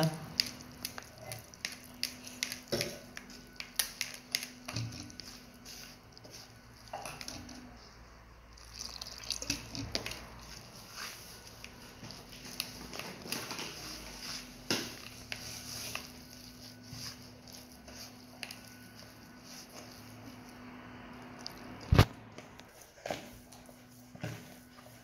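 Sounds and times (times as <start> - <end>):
hands kneading wet dough: 0.0 - 25.0.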